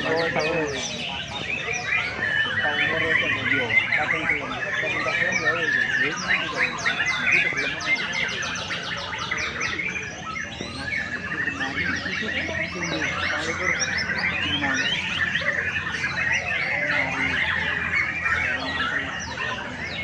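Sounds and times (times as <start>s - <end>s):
murmur of voices: 0.0s - 20.0s
songbirds chirping and trilling: 0.0s - 20.0s.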